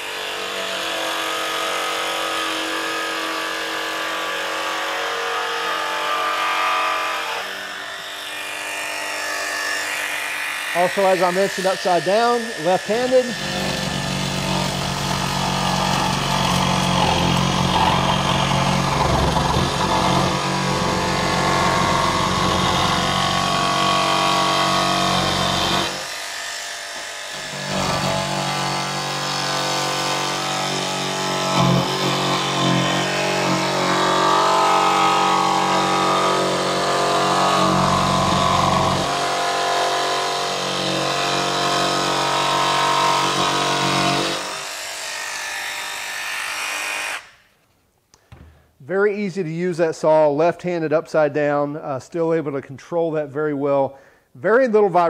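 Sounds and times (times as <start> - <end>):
jigsaw cutting plywood: 0.0 - 47.3.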